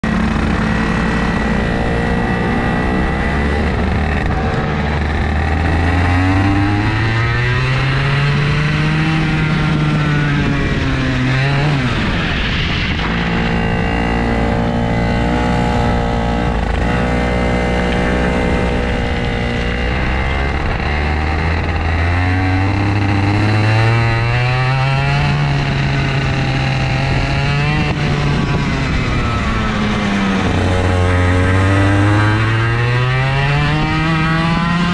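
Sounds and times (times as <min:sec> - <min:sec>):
kart engine accelerating: 0:00.0 - 0:34.9.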